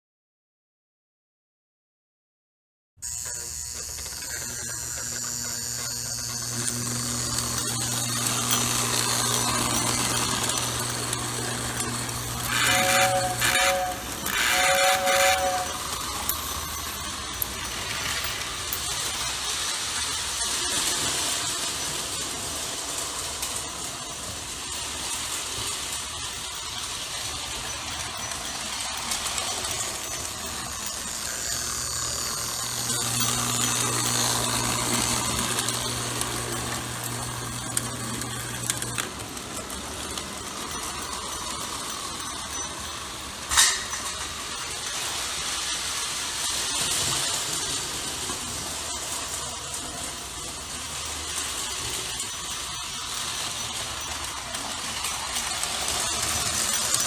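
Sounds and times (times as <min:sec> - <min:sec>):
toy train whirring and clattering: 0:03.0 - 0:57.0.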